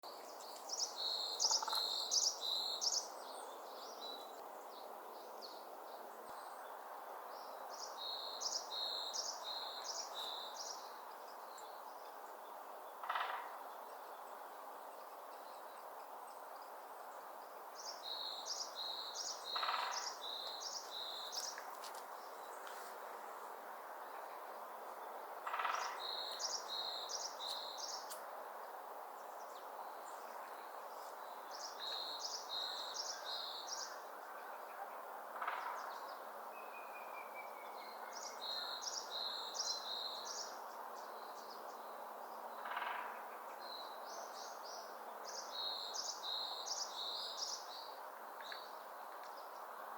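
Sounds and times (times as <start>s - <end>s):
steady outdoor hiss: 0.0s - 49.9s.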